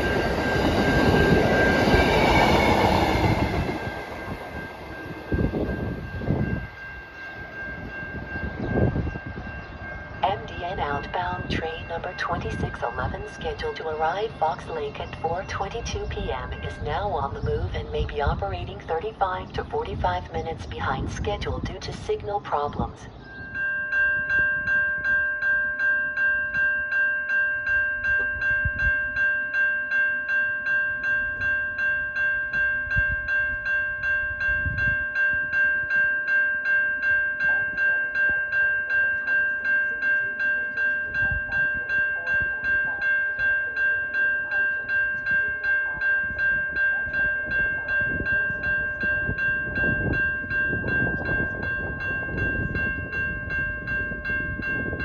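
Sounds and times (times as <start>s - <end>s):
railroad crossing bell ringing: 0.0s - 55.0s.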